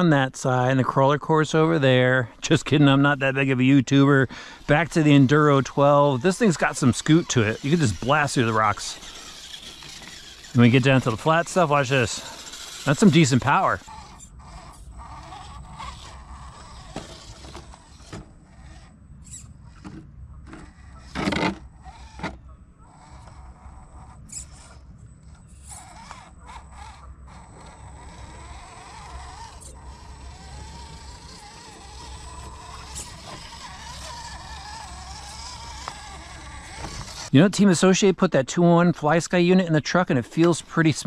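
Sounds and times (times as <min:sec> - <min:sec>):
tires clicking on stone: 0:01.4 - 0:38.0
electric motor whine: 0:03.1 - 0:37.3.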